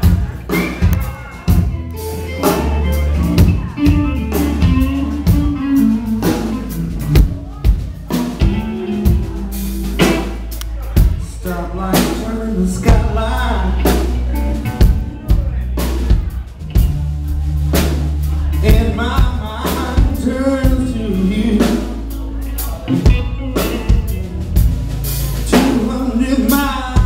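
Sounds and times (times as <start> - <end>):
drum kit: 0.0 - 27.0
electric bass: 0.0 - 27.0
electric guitars: 0.0 - 27.0.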